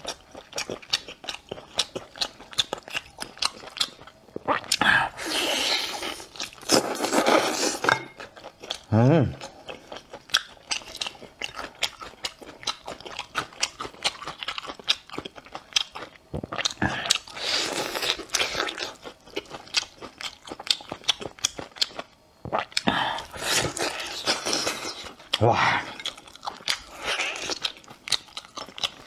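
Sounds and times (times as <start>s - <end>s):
chewing crunchy food: 0.0s - 29.0s.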